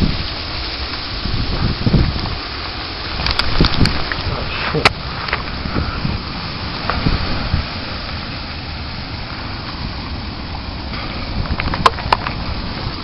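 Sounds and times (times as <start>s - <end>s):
blizzard wind on microphone: 0.0s - 13.0s.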